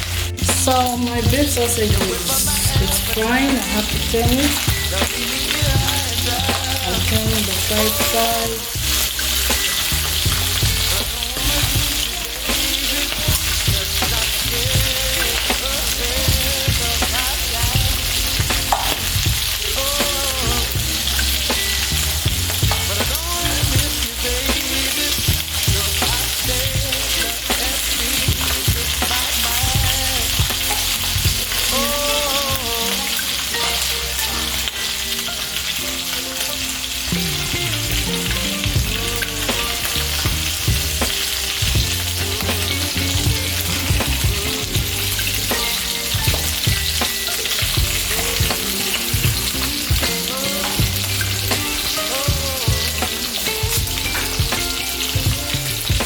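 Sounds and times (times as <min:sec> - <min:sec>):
sausages sizzling in oil: 0:00.0 - 0:56.0.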